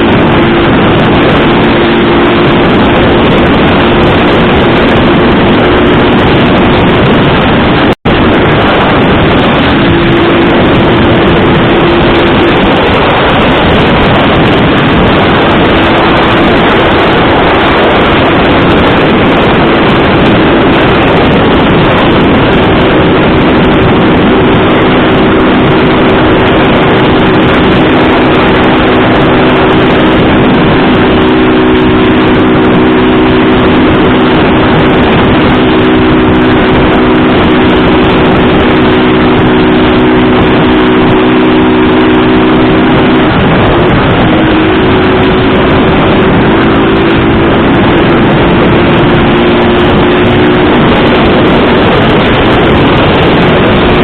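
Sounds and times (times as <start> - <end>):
loud rushing wind: 0.0 - 54.0
motorcycle engine running: 0.0 - 54.0.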